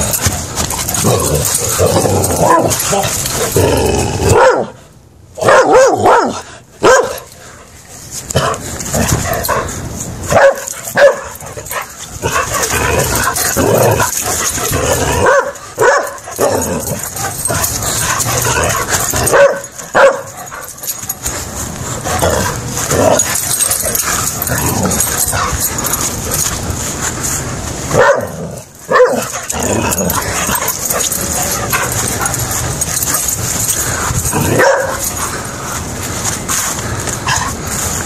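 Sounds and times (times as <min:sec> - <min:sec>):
dog barking and yipping: 0:00.0 - 0:03.6, 0:04.2 - 0:04.8, 0:05.4 - 0:07.4, 0:08.4 - 0:21.4, 0:22.0 - 0:26.5, 0:27.9 - 0:35.4.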